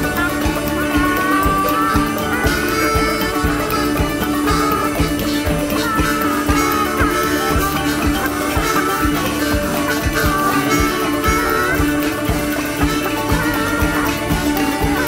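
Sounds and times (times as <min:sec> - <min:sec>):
drums keeping a steady beat: 0:00.0 - 0:15.0
lead instrument sliding notes: 0:00.0 - 0:15.0.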